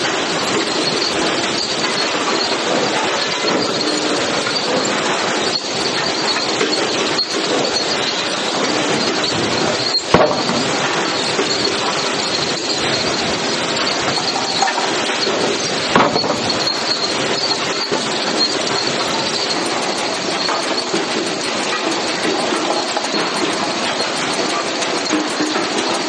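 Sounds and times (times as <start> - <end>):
conveyor chains clattering: 0.0 - 26.0.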